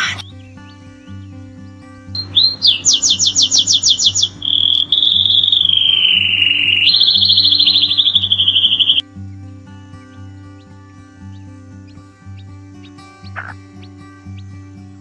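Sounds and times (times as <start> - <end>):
background music: 0.0 - 15.0
songbird singing trills: 0.0 - 15.0.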